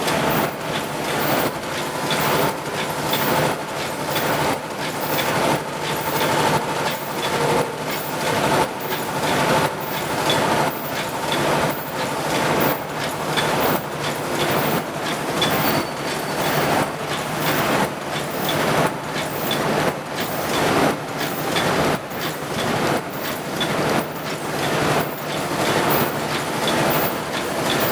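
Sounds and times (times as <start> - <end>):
machine clattering: 0.0 - 27.9.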